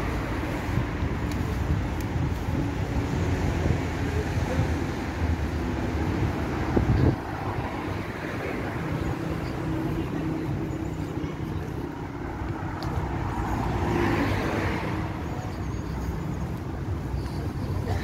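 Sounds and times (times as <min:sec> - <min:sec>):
street traffic hum: 0:00.0 - 0:18.0.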